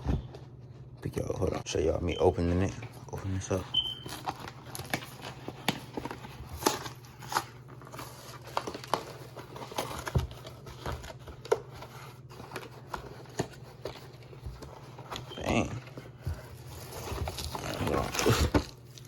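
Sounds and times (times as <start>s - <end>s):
low steady hum: 0.0s - 19.0s
plastic wrap crinkling: 2.2s - 19.0s
cardboard tearing: 3.4s - 19.0s.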